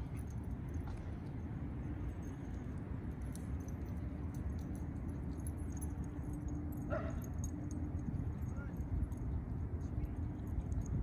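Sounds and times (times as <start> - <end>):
faint jingling: 0.0 - 11.0
steady low rumble: 0.0 - 11.0.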